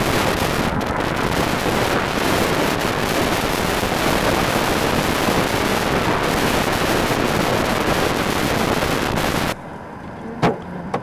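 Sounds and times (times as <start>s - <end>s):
wind on microphone: 0.0s - 9.6s
vehicles passing on highway: 0.0s - 11.0s.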